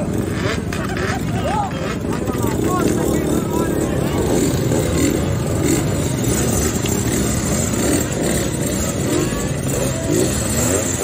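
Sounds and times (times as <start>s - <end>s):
motorcycle engines idling: 0.0s - 11.0s
motorcycle engines revving: 0.0s - 11.0s.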